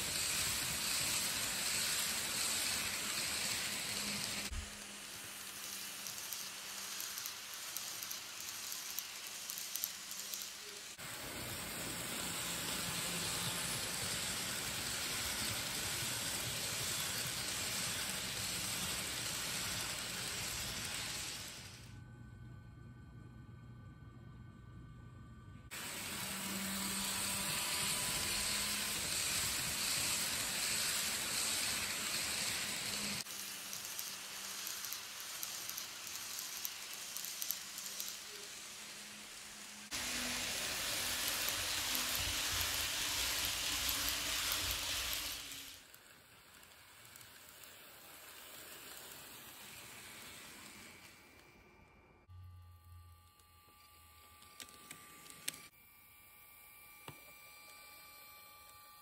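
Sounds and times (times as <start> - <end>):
model train motors whirring: 0.0 - 22.0, 25.7 - 55.7.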